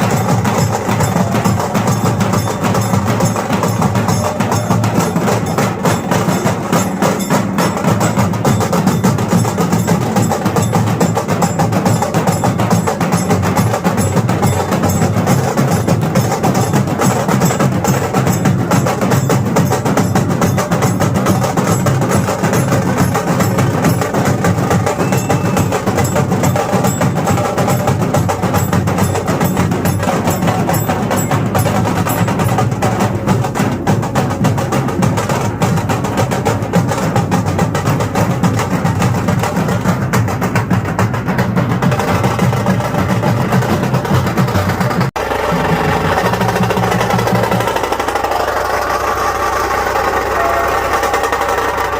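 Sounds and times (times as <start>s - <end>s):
fast percussion-driven music: 0.0s - 51.9s.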